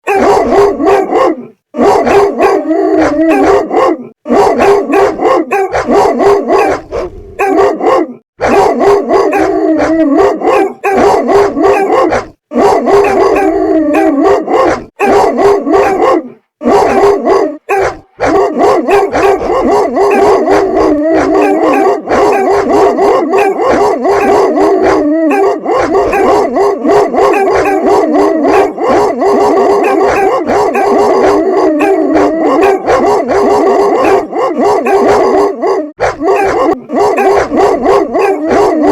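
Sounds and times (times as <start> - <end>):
dogs barking: 0.0 - 38.9.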